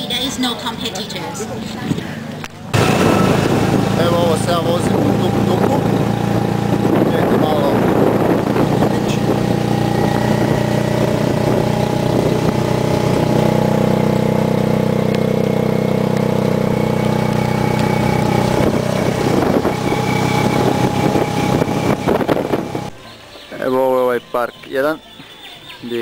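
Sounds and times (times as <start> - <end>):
tuk-tuk engine running: 0.0 - 23.9.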